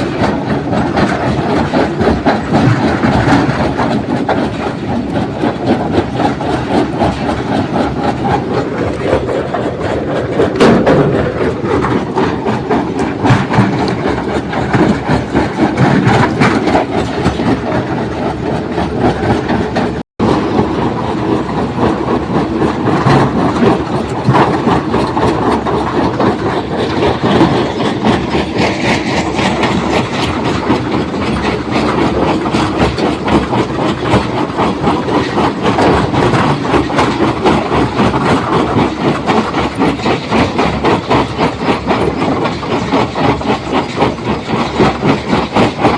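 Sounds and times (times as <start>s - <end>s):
stone crusher rattling rocks: 0.0s - 45.9s.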